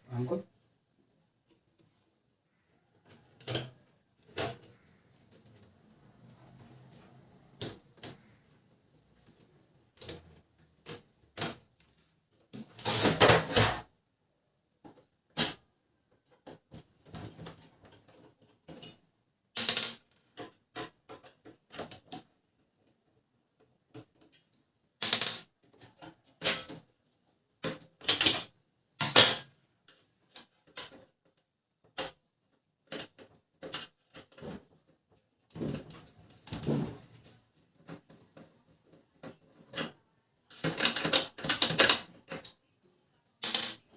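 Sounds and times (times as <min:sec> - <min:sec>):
plastic parts scraping and rattling: 0:01.4 - 0:13.9, 0:14.8 - 0:18.9, 0:19.6 - 0:28.3, 0:29.0 - 0:42.7
plastic parts clicking and knocking: 0:02.8 - 0:13.9, 0:14.7 - 0:19.0, 0:19.6 - 0:43.9.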